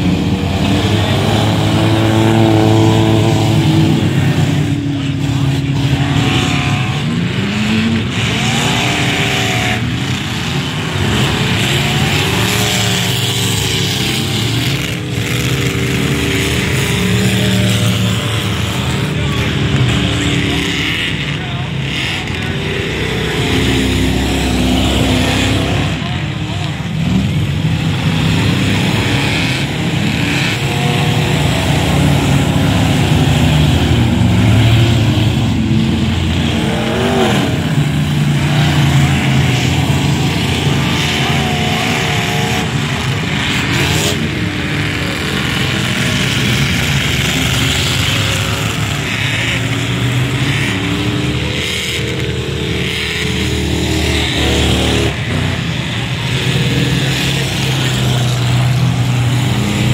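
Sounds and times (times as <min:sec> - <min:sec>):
racing truck engines: 0:00.0 - 0:59.9.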